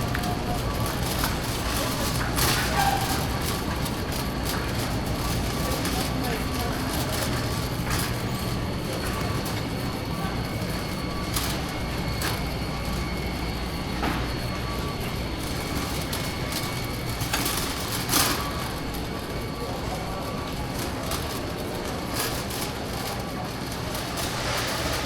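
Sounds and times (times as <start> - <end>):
cart clicks and knocks: 0.0 - 25.0
shopping cart rolling on concrete: 0.0 - 25.0
store hum: 0.0 - 25.0.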